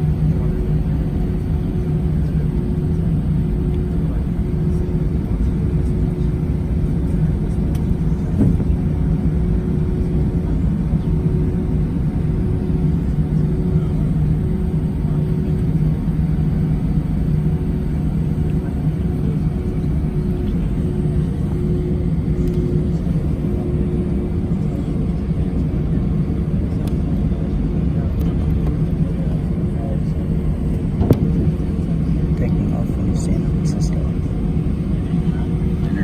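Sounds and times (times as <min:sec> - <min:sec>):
airliner cabin engine hum: 0:00.0 - 0:36.0.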